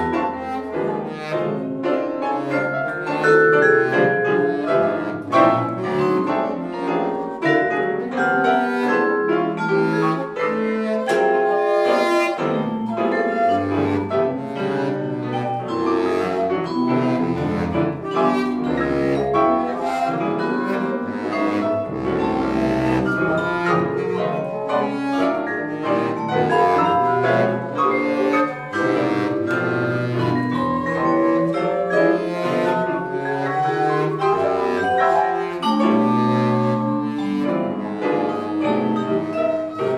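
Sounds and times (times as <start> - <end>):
chamber music quartet: 0.0 - 39.9.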